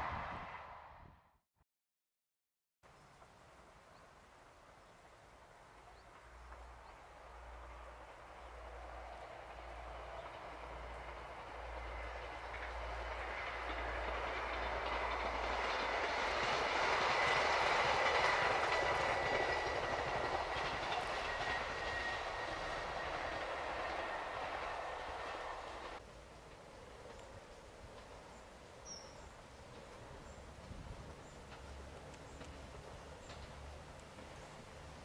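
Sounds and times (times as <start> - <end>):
train passing: 0.0 - 1.1, 2.9 - 35.0.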